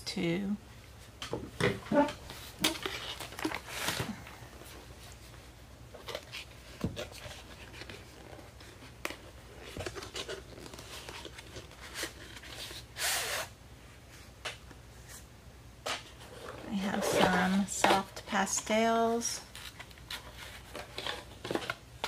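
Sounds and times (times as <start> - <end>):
paper and cardboard rustling: 1.7 - 13.5, 15.9 - 22.0.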